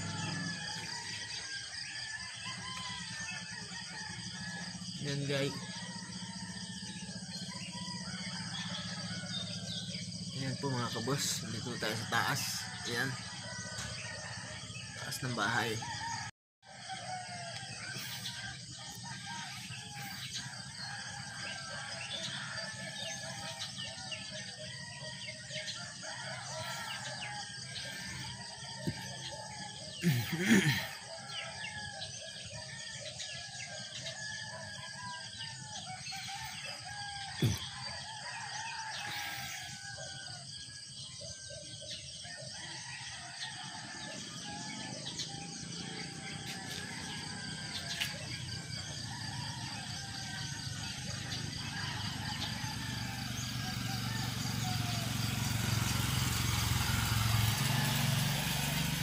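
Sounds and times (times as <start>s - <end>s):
rooster crowing: 0.0s - 59.0s.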